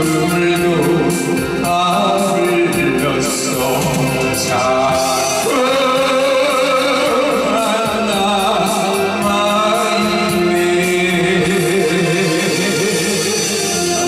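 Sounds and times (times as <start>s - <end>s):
instrumental accompaniment: 0.0s - 14.0s
man singing into microphone: 0.0s - 14.0s.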